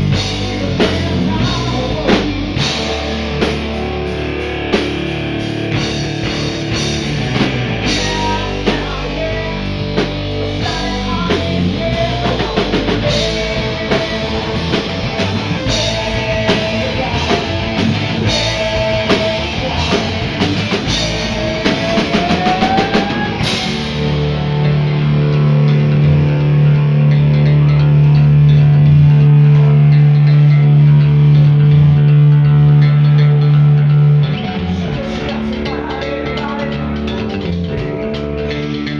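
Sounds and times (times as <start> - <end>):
lead guitar line: 0.0 - 38.9
rock band playing: 0.0 - 38.9.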